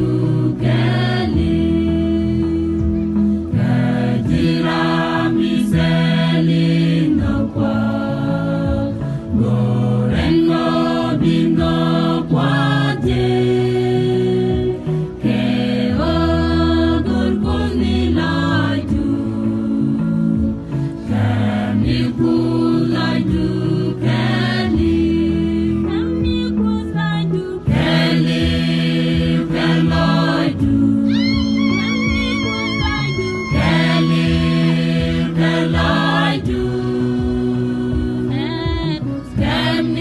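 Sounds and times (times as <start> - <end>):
mixed choir singing: 0.0 - 40.0.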